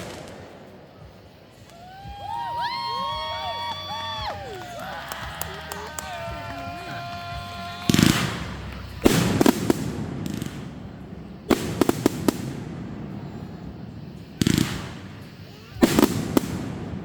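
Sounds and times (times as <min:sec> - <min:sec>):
fireworks bangs: 0:00.0 - 0:17.0
fireworks crackling pops: 0:00.0 - 0:17.0.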